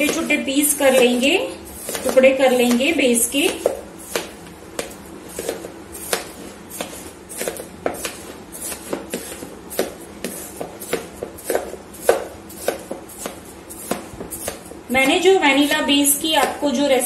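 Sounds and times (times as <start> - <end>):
knife chopping ice cream in bowl: 0.0 - 16.8.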